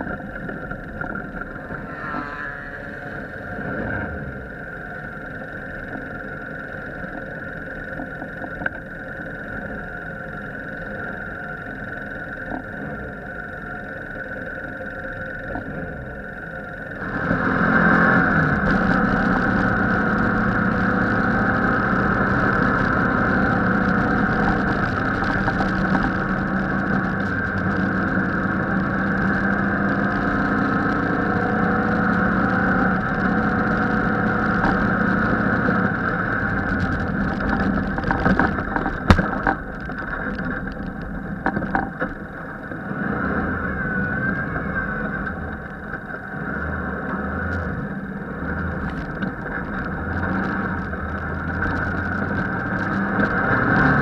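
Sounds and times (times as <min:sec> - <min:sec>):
engine running hard: 0:00.0 - 0:54.0
wind and road noise: 0:00.0 - 0:54.0.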